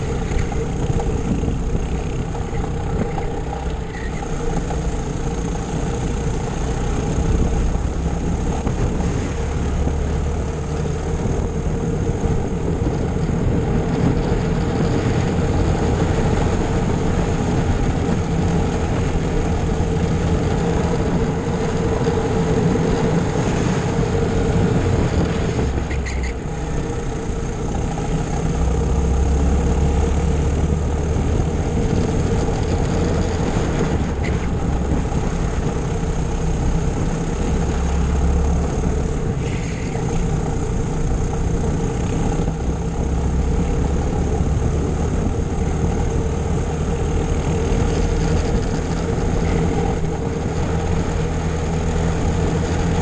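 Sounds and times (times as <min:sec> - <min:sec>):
racing kart engine: 0:00.0 - 0:53.0.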